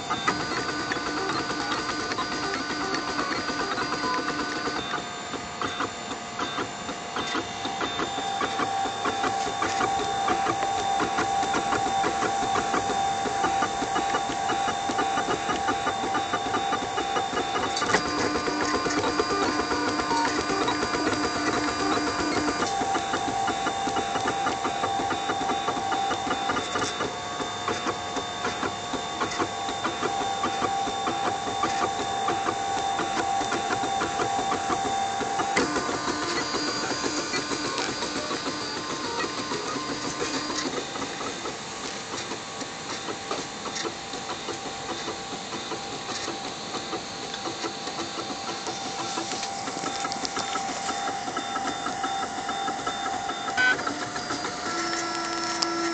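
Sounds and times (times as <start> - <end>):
three d printer motors whining: 0.0 - 55.9.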